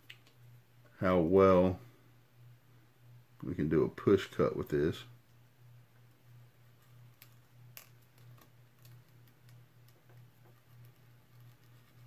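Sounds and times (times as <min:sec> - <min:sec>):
faint pulsing low hum: 0:00.0 - 0:12.0.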